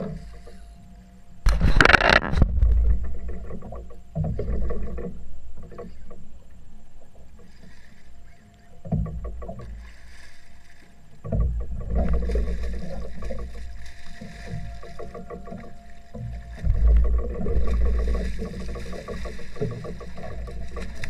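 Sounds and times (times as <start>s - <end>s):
water slapping boat hull: 0.0s - 21.0s.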